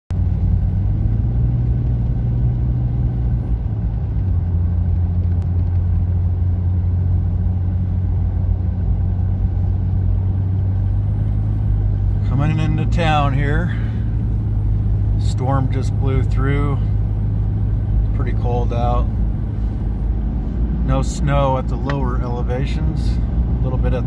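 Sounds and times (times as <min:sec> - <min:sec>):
car engine and road drone: 0:00.1 - 0:24.0.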